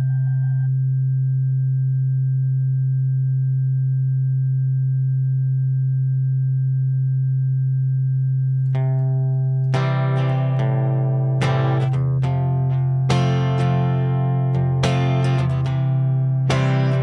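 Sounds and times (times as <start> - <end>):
steady low droning tone: 0.0 - 17.0.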